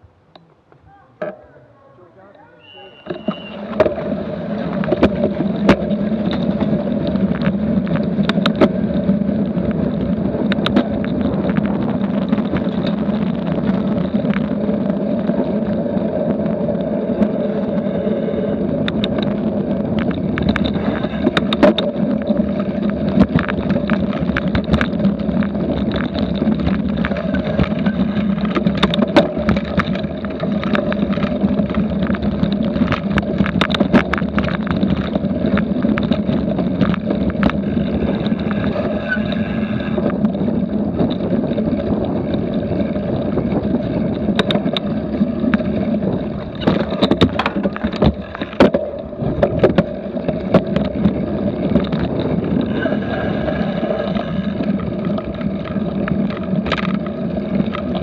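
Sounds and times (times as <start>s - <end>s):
tyres on pavement and grass: 0.0s - 58.0s
bike clicks and rattles: 2.4s - 58.0s
wind on microphone: 2.7s - 58.0s.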